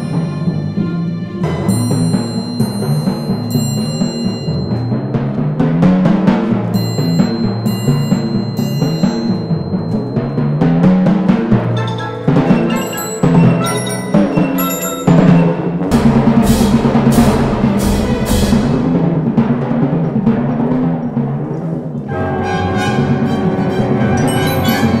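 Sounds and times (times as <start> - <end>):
orchestra playing: 0.0 - 20.5, 21.2 - 25.0
timpani rapid strokes: 0.0 - 25.0.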